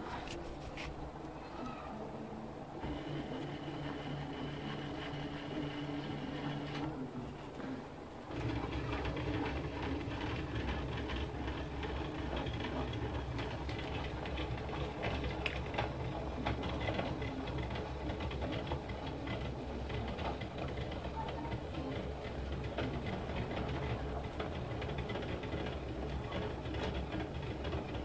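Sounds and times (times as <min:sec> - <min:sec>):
stepper motor mechanical hum: 0:00.0 - 0:28.0.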